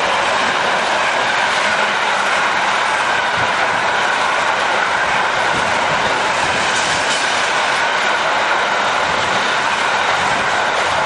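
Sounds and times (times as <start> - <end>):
freight train rolling on rails: 0.0 - 11.0.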